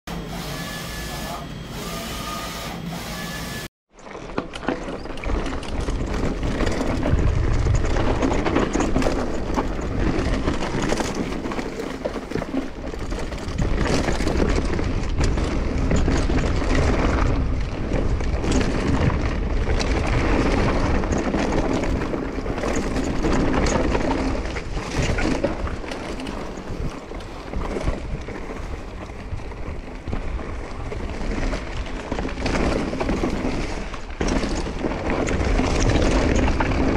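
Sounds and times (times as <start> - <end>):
bike tyre noise on dirt: 3.3 - 36.9
bike knocking and rattling: 3.9 - 36.9
wind on microphone: 5.6 - 11.5, 12.7 - 36.9.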